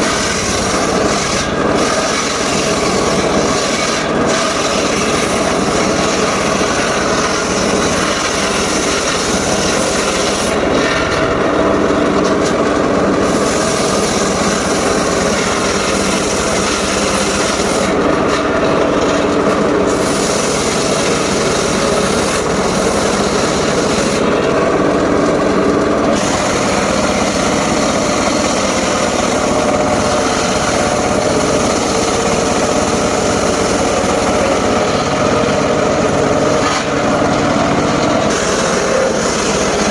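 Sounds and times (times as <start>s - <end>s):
drive motor hum: 0.0s - 39.9s
saw blade rasping through wood: 0.0s - 39.9s.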